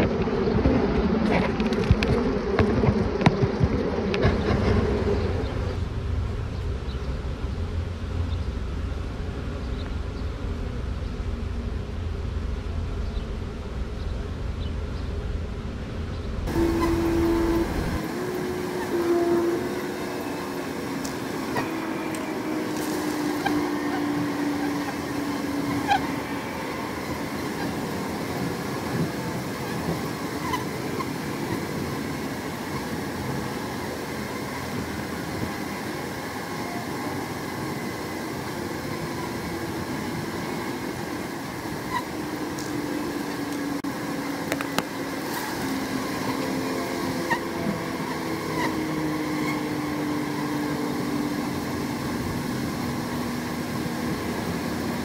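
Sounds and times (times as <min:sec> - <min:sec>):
bee swarm buzzing: 0:00.0 - 0:05.9, 0:16.4 - 0:55.0.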